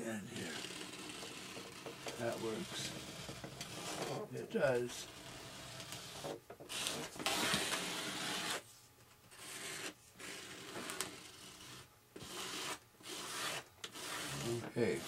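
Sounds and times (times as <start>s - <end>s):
scraper scraping over foam: 0.2s - 8.7s, 9.3s - 15.0s.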